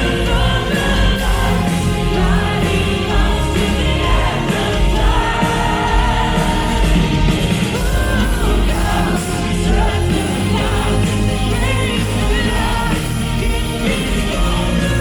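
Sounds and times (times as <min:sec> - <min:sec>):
lead singer's voice: 0:00.0 - 0:15.0
metal band playing live: 0:00.0 - 0:15.0.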